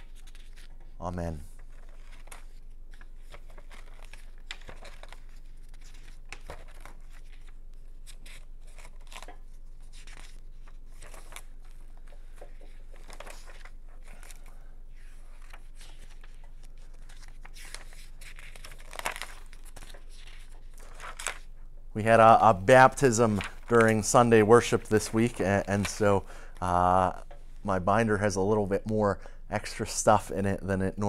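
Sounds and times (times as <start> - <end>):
paper pages rustling and turning: 0.0 - 26.7.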